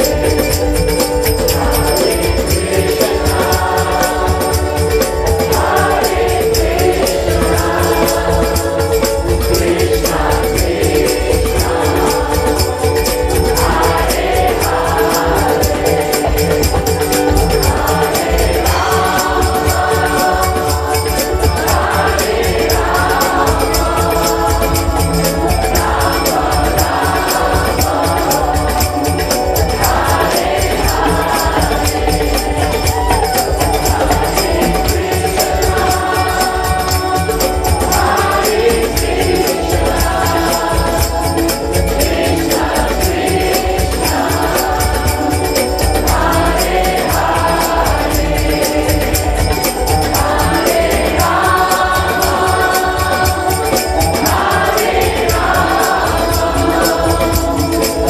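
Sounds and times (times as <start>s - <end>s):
crowd singing a devotional chant: 0.0s - 58.0s
hand drums: 0.0s - 58.0s.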